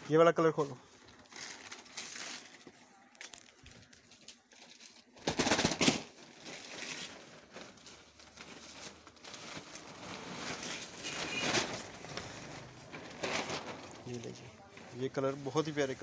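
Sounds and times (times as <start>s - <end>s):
fabric rustling: 0.1s - 16.0s
plastic packaging crinkling: 0.4s - 16.0s.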